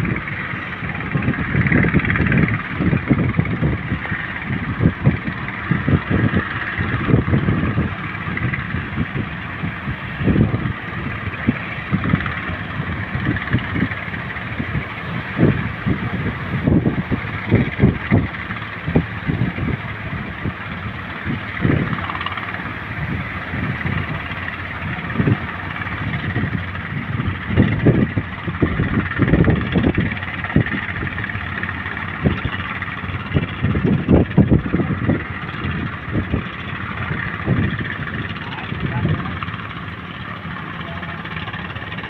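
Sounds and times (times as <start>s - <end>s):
heavy ocean surf roaring: 0.0s - 42.0s
wind buffeting microphone: 0.0s - 42.0s.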